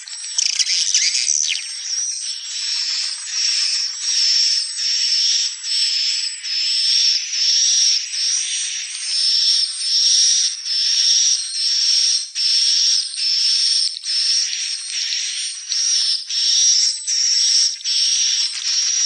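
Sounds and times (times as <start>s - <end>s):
buzzy bird chirrups: 0.0s - 19.0s.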